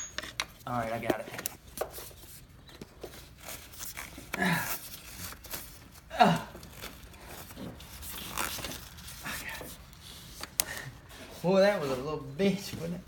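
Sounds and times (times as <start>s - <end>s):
hands handling wiring and plastic: 0.0s - 11.8s.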